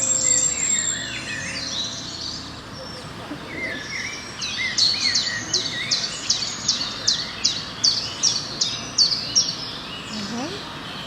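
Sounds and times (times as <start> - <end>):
birds warbling softly: 0.0 - 11.0.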